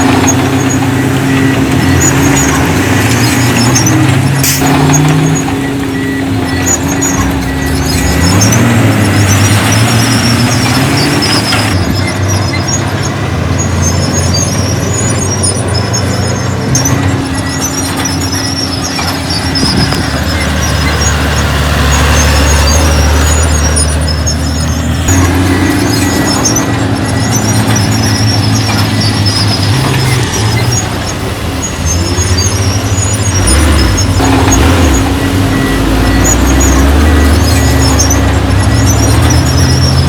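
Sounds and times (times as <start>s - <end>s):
diesel machinery engine running: 0.0s - 40.0s
high squealing: 0.0s - 40.0s.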